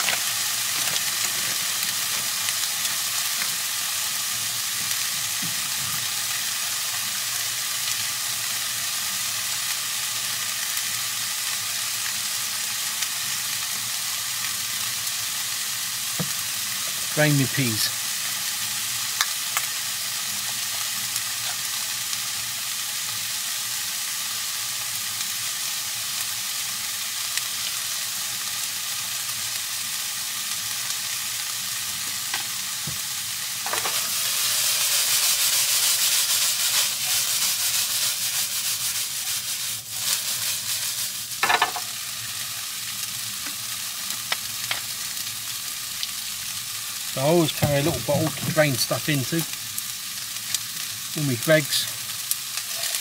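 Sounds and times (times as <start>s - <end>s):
pasta sizzling in a frying pan: 0.0s - 53.0s.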